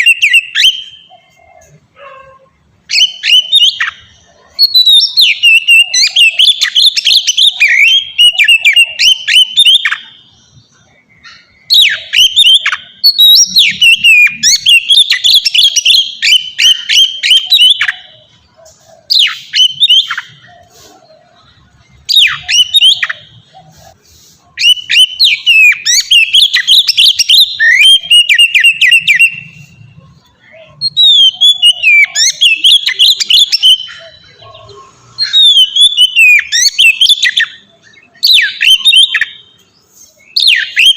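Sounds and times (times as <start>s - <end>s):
bird singing whistled song: 0.0s - 2.1s, 2.8s - 40.9s.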